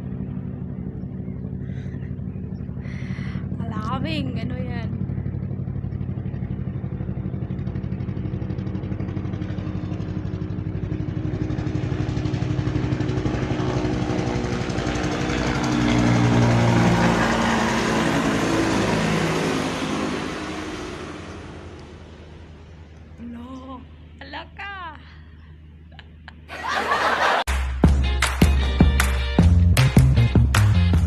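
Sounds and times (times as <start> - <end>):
helicopter passing overhead: 0.0 - 27.4.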